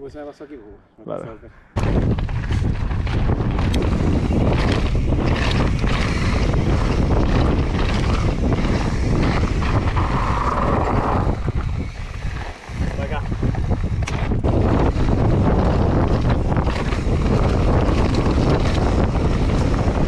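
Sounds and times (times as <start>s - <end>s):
wind buffeting microphone: 1.7s - 20.0s
bike rattling clicks: 1.8s - 20.0s
tyre rumble on dirt: 1.8s - 20.0s.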